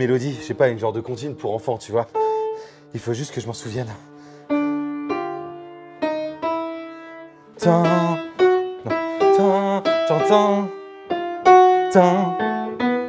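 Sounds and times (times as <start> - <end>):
upright piano notes: 0.0 - 13.0.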